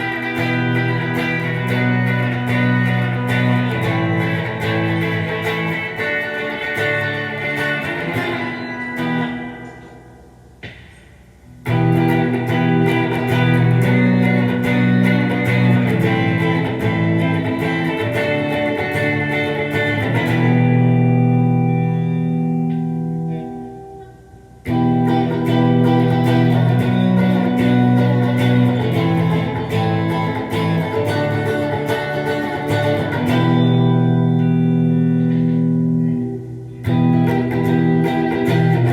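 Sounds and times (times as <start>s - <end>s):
electric guitar notes and chords: 0.0s - 38.9s.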